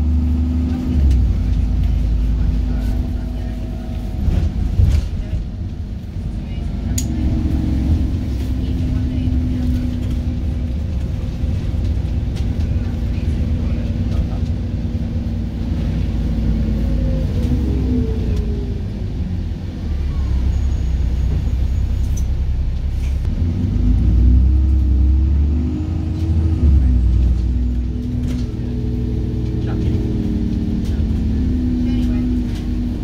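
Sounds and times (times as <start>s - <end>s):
bus driveline rumble and whine: 0.0s - 33.0s.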